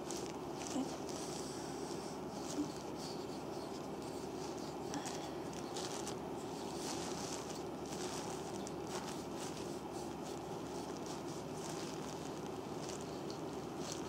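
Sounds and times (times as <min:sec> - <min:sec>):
hands rubbing foot: 0:00.0 - 0:14.0
low background hum: 0:00.0 - 0:14.0.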